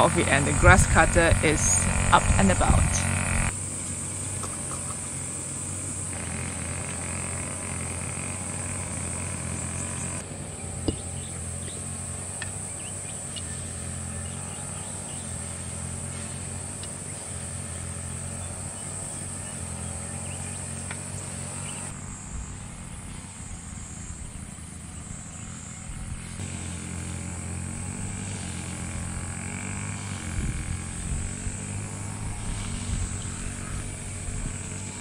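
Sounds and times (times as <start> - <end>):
brush cutter engine running: 0.0 - 35.0
high insect drone: 0.0 - 35.0.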